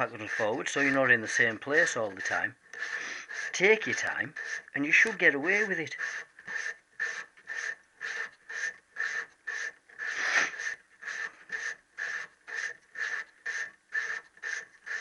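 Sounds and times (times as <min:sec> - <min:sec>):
hand reamer rasping scrape: 0:00.0 - 0:15.0.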